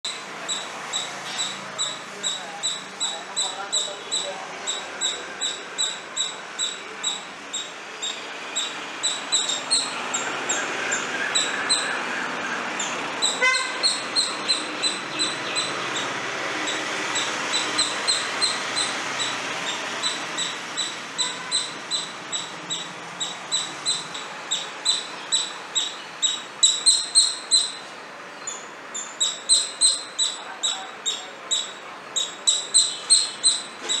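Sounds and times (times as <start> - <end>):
squirrel chirping alarm call: 0.1 - 34.0.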